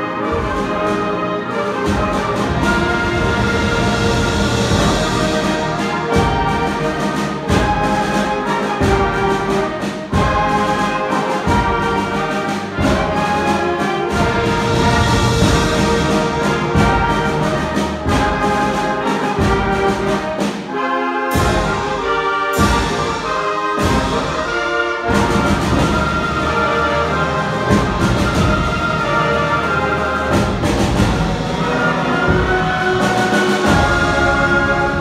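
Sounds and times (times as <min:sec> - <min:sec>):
concert band playing: 0:00.0 - 0:35.0
percussion strikes: 0:01.8 - 0:35.0.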